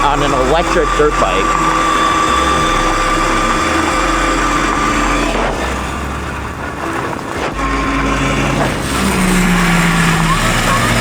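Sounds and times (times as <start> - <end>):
electric motor whine: 0.0 - 11.0
tyres on gravel: 0.0 - 11.0.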